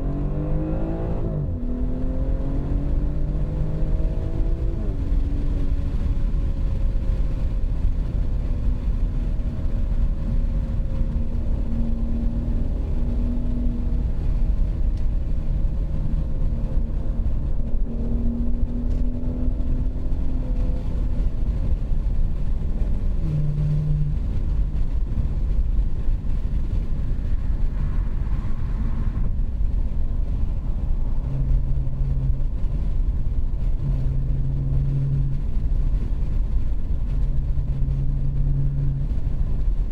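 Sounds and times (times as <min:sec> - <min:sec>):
low car exhaust drone: 0:00.0 - 0:39.9
road rumble: 0:00.0 - 0:39.9.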